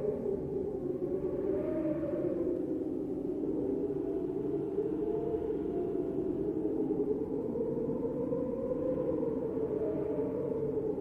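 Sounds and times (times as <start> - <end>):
wind howling: 0.0 - 11.0.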